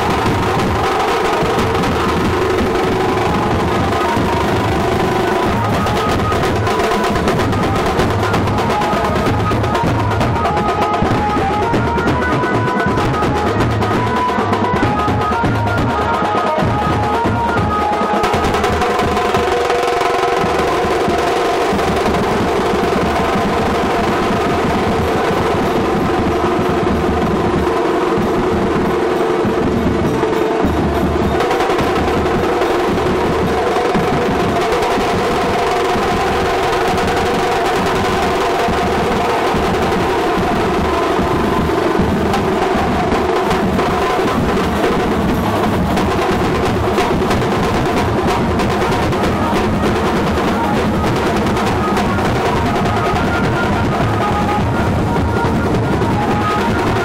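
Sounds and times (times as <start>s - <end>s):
barrel drums fast rhythm: 0.0s - 57.0s
steady held tones: 0.0s - 57.0s.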